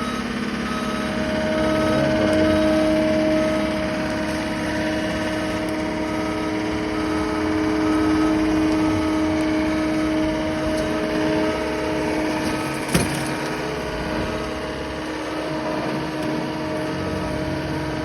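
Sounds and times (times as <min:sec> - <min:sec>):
electric polisher motor hum: 0:00.0 - 0:18.0.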